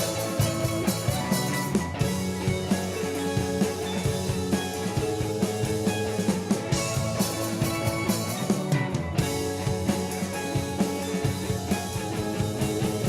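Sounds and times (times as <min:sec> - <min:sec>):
rock band playing: 0:00.0 - 0:13.0
steady drum beat: 0:00.0 - 0:13.0.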